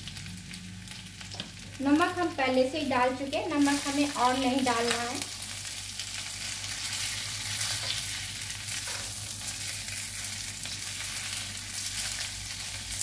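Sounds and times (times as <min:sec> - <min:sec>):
snack pieces sizzling in pan: 0:00.0 - 0:13.0.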